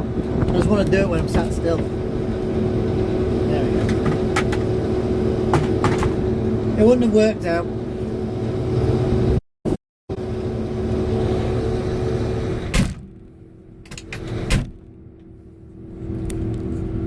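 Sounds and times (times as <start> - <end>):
vehicle engine running: 0.0 - 9.4, 10.1 - 17.0.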